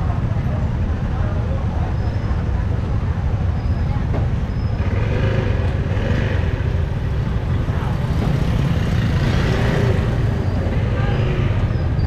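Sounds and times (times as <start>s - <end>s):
motorbikes: 0.0s - 12.0s
road traffic rumble: 0.0s - 12.0s.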